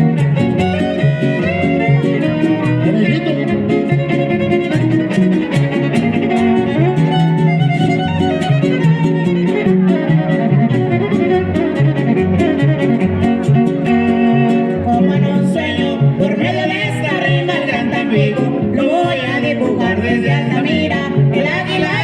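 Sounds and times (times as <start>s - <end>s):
strummed strings: 0.0s - 22.0s
violin melody: 0.0s - 22.0s.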